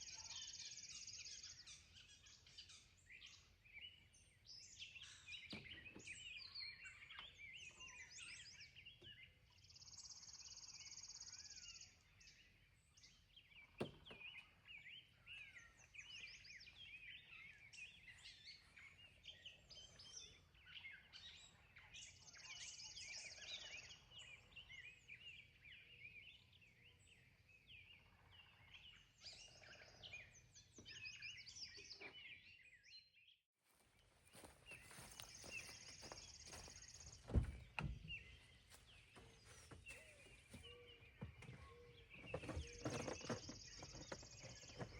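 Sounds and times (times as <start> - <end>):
outdoor background noise: 0.0 - 33.0, 33.6 - 44.9
birds chirping and warbling: 0.0 - 44.9.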